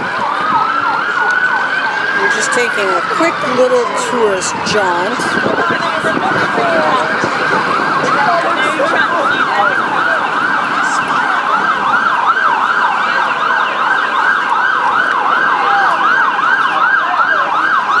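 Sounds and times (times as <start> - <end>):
emergency siren yelping: 0.0 - 18.0.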